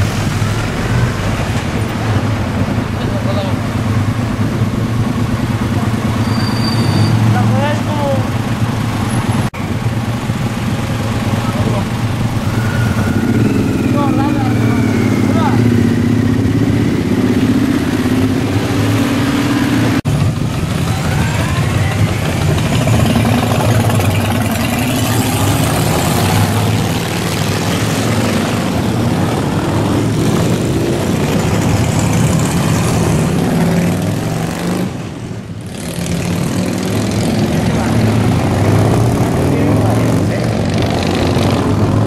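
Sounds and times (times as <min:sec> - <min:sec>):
motorcycles riding past: 0:00.0 - 0:42.0.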